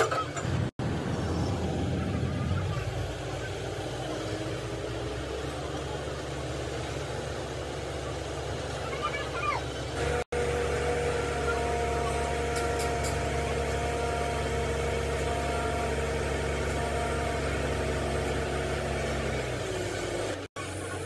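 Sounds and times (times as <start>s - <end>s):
engine idling hum: 0.0s - 21.0s.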